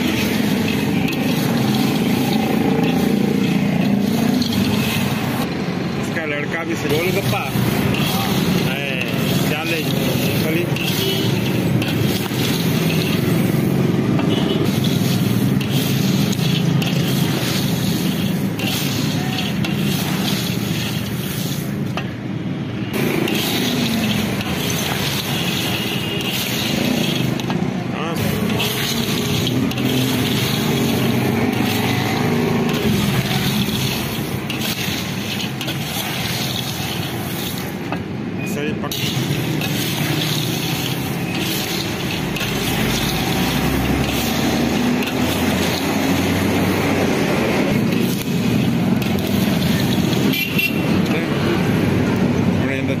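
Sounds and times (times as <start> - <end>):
peanuts and sand scraping in a wok: 0.0 - 5.5, 6.5 - 22.0, 22.9 - 37.9, 38.8 - 51.2.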